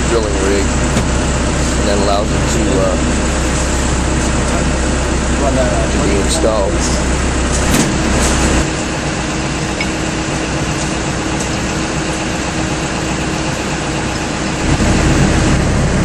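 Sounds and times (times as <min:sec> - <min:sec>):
deep rumble: 0:00.0 - 0:16.0
machinery drone: 0:00.0 - 0:16.0
mid-pitched hum: 0:00.0 - 0:16.0.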